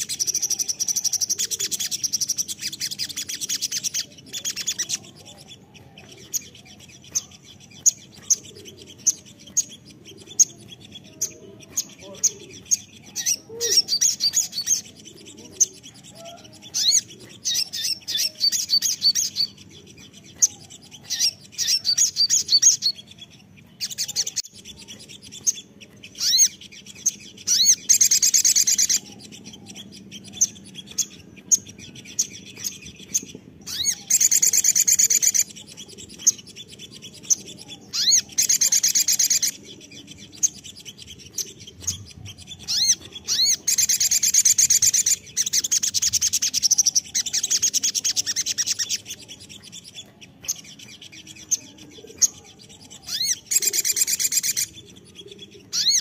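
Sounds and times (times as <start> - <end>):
sunbird high chirps: 0.0 - 56.0.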